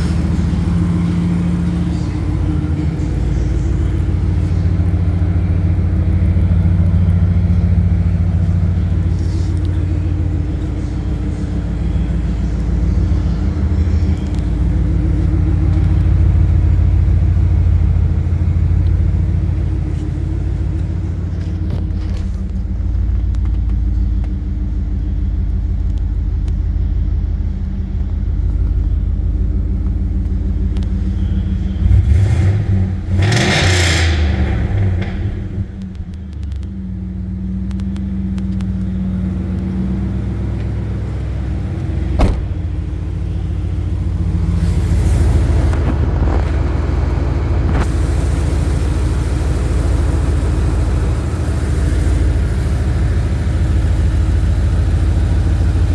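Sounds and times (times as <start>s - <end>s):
car engine rumbling: 0.0s - 55.9s.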